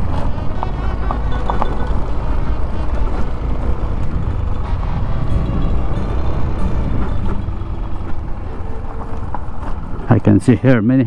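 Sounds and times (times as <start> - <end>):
scooter engine running: 0.0 - 10.1
wind rumble on microphone: 0.0 - 10.3.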